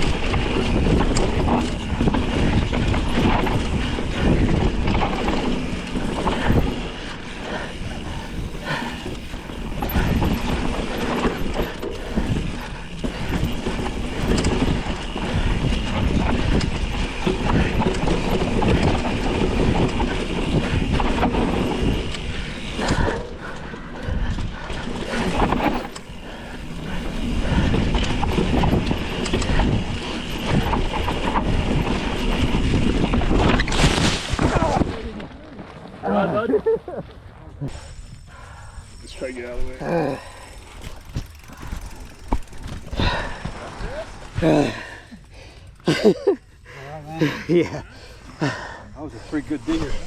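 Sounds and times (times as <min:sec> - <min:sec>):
mountain bike rattling on dirt trail: 0:00.0 - 0:50.0.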